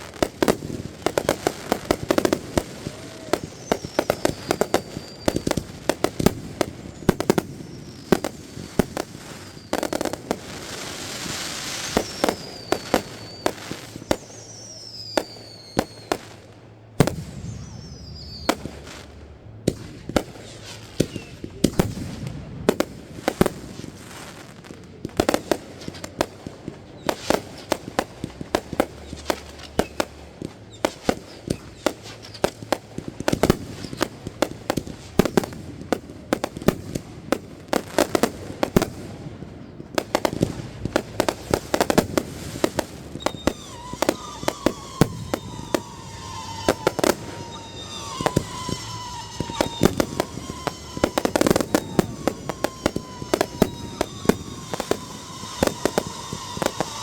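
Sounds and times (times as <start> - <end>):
fireworks bangs and pops: 0.0 - 57.0
fireworks crackling: 0.0 - 57.0
fireworks falling whistles: 0.0 - 57.0.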